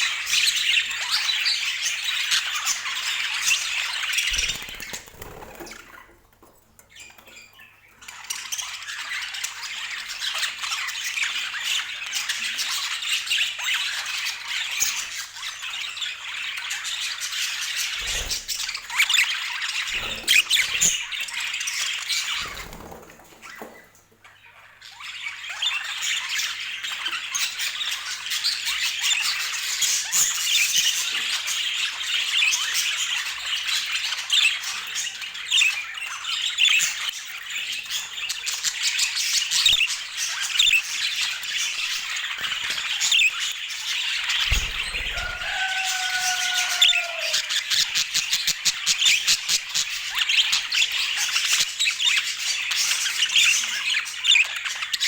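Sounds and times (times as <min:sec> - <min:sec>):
budgerigars chattering: 0:00.0 - 0:06.1, 0:07.4 - 0:22.9, 0:24.3 - 0:55.0.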